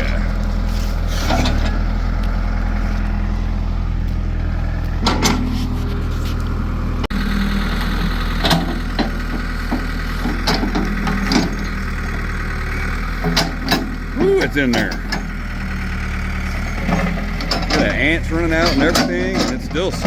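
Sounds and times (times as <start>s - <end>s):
digging knocks and clanks: 0.0s - 3.3s, 3.9s - 6.7s, 7.8s - 20.0s
backhoe engine running: 0.0s - 20.0s.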